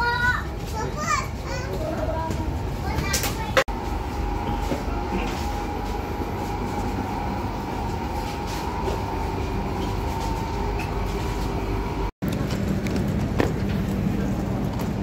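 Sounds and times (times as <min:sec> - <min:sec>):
constant high hum: 0:00.0 - 0:15.0
train carriage rumble: 0:00.0 - 0:15.0.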